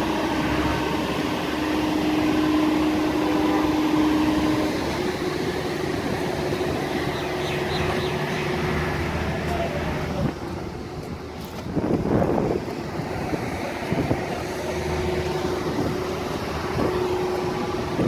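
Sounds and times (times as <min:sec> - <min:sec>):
heavy engine humming: 0:00.0 - 0:18.0.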